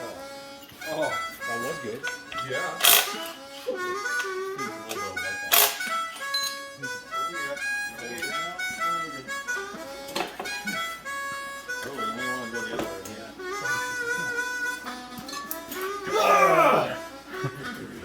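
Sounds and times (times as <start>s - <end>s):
harmonica playing held notes: 0.0s - 16.0s.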